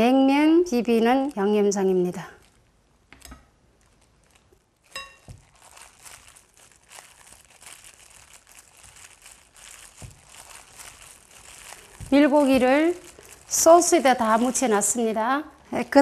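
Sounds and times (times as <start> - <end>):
plastic glove crinkling: 0.7 - 16.0
soft squishing: 1.1 - 15.2.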